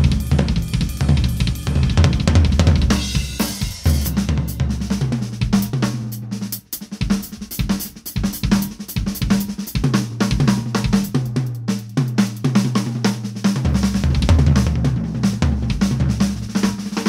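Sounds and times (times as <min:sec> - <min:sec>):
heavy rock drumming: 0:00.0 - 0:17.0.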